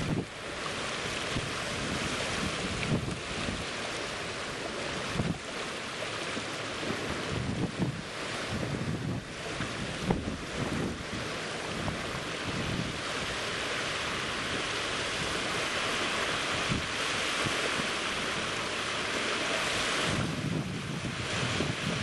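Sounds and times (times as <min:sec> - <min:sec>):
wind buffeting microphone: 0:00.0 - 0:05.7, 0:06.3 - 0:22.0
rushing water and waves: 0:00.0 - 0:22.0.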